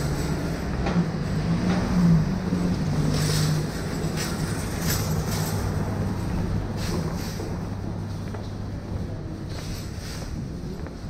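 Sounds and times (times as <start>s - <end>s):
traffic noise: 0.0s - 11.0s
vehicle engine humming: 0.0s - 11.0s.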